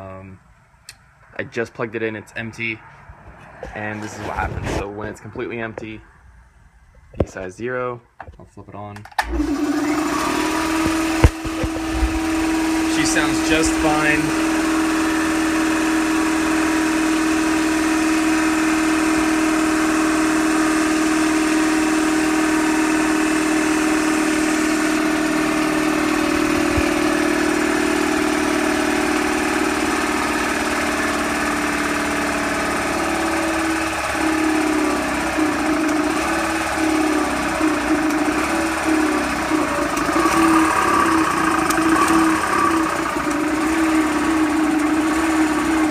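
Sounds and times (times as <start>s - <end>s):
air compressor humming: 9.2s - 45.9s.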